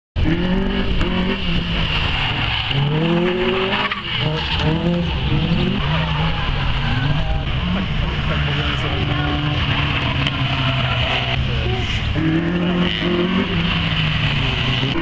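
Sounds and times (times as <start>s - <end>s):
race car engine revving: 0.2s - 15.0s.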